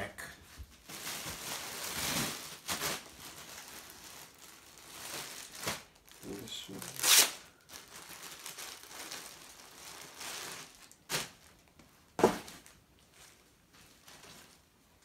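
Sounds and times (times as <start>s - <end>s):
plastic bags rustling and crinkling: 0.2s - 15.0s.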